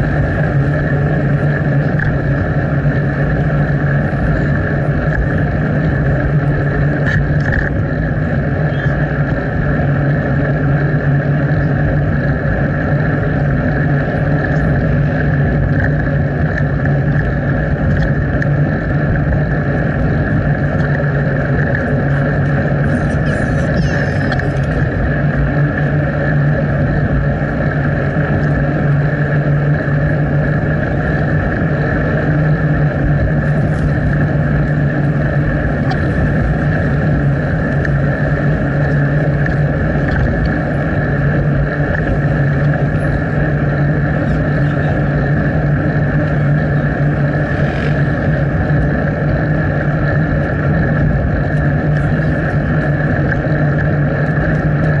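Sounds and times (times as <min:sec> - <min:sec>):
bicycle riding noise: 0:00.0 - 0:55.0
wind noise: 0:00.0 - 0:55.0.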